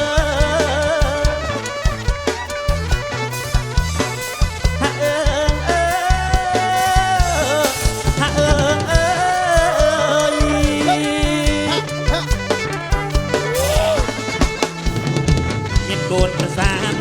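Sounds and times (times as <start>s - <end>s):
wavering sliding lead melody: 0.0s - 15.7s
bass line: 0.0s - 17.0s
drum beat: 0.0s - 17.0s.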